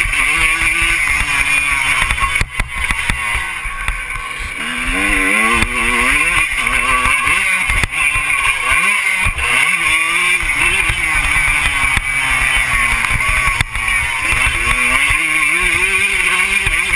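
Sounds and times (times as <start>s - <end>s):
loud steady rushing noise: 0.0s - 16.9s
motocross bike engine revving: 0.0s - 16.9s.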